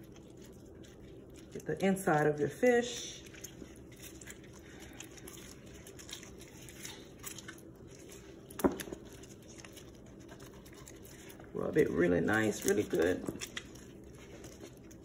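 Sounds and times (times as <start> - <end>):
wet rubbing and squishing: 0.0 - 15.0.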